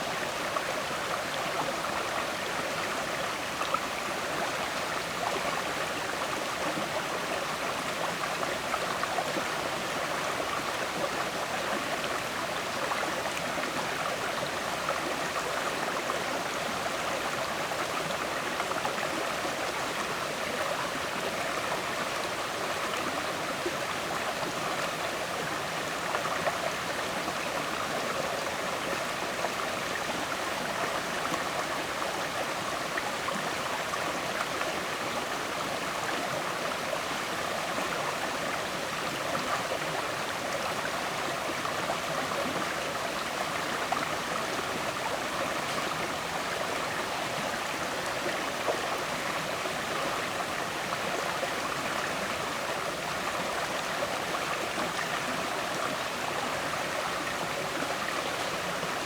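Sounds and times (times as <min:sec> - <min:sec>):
river water flowing and gurgling: 0:00.0 - 0:59.0.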